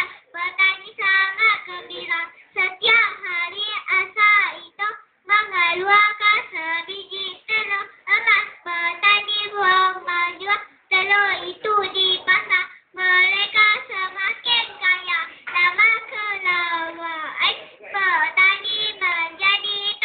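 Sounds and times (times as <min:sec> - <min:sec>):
girl singing unaccompanied: 0:00.0 - 0:20.0.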